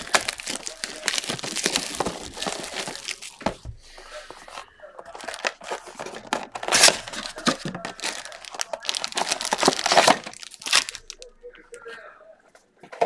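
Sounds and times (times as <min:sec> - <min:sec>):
card packs crinkling and rustling: 0:00.0 - 0:11.4.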